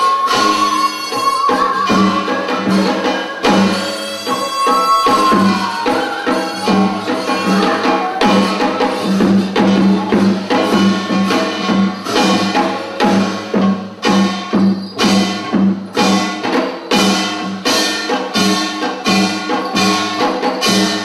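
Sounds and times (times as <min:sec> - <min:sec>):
hourglass drum struck rapidly: 0:01.8 - 0:21.0.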